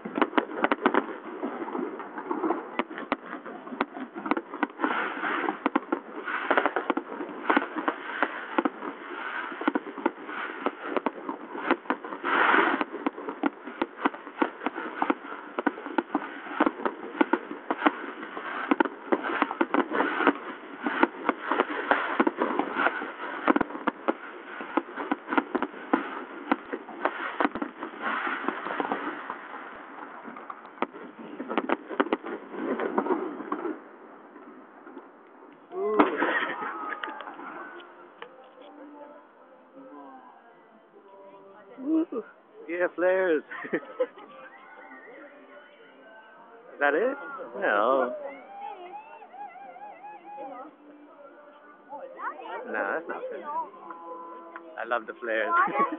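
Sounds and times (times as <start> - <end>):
fireworks bursting: 0.0 - 39.1, 41.8 - 55.9.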